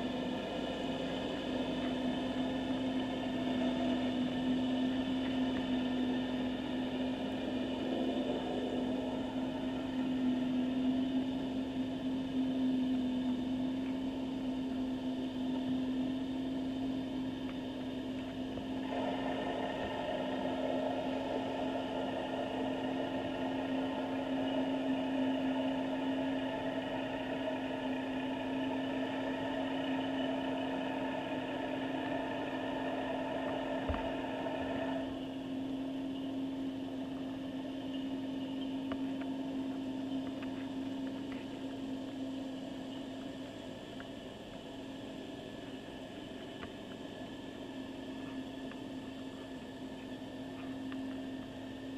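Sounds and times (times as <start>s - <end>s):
underwater hum: 0.0s - 51.9s.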